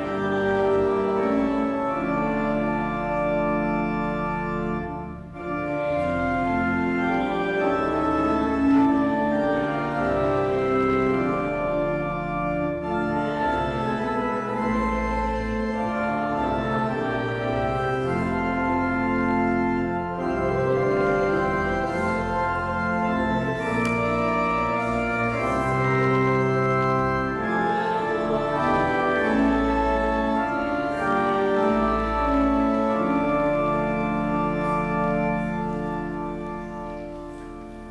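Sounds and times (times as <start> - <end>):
organ playing slow chords: 0.0 - 37.9.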